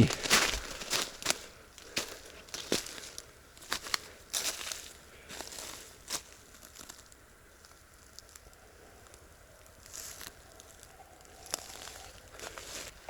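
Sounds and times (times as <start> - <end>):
footsteps crunching on leaf litter: 0.0 - 8.4, 9.8 - 13.0.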